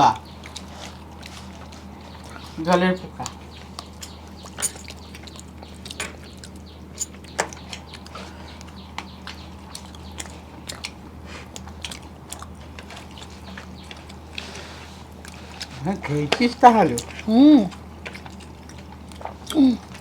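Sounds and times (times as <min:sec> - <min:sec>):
person chewing: 0:00.1 - 0:20.0.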